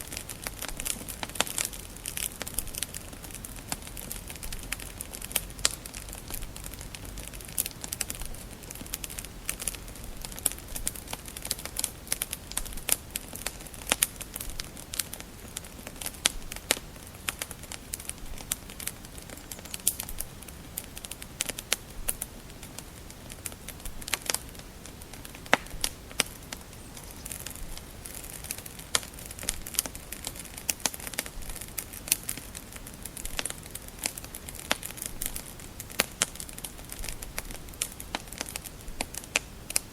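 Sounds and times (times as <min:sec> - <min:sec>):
soft hiss of burning logs: 0:00.0 - 0:39.9
wood fire crackling and popping: 0:00.0 - 0:39.9.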